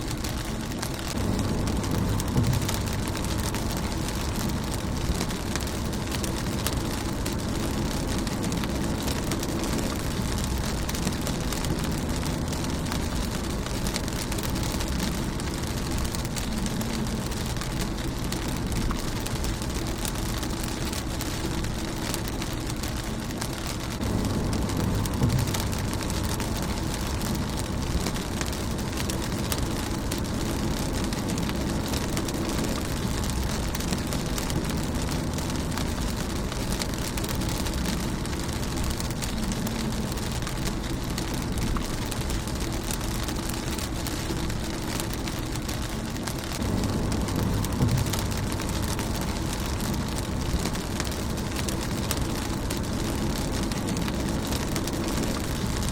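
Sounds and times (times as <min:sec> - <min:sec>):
low rumble: 0:00.0 - 0:55.9
rain on a car windshield: 0:00.0 - 0:55.9.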